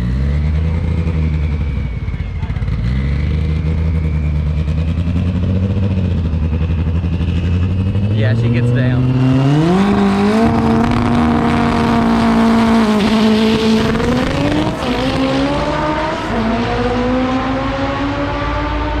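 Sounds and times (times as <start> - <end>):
drag racing car engine at full throttle: 0.0 - 19.0.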